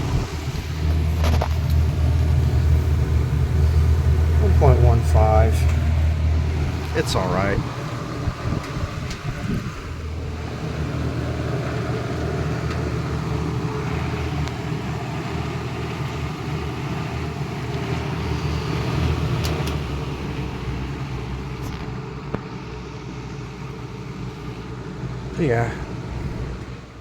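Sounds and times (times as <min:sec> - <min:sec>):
box fan running: 0:00.0 - 0:27.0.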